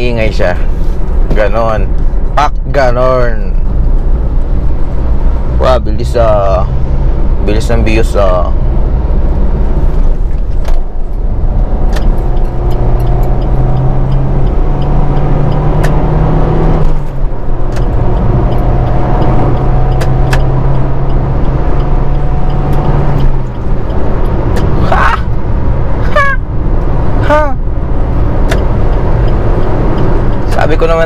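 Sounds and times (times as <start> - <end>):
car engine accelerating: 0.0 - 31.0
tyre and road noise: 0.0 - 31.0.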